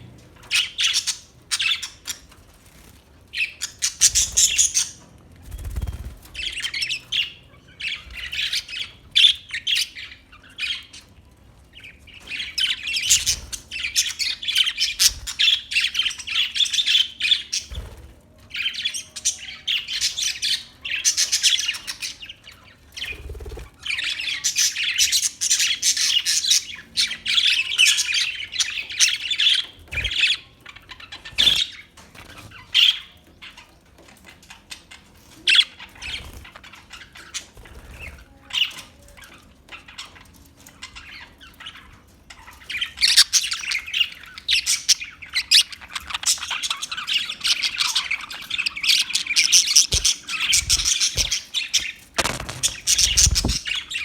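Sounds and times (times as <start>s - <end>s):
budgerigars chattering and squawking: 0.0s - 2.5s, 3.3s - 54.0s.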